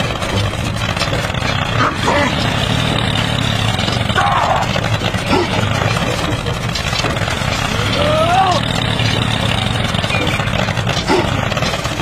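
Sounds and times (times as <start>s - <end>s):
tractor engine chugging: 0.0s - 12.0s.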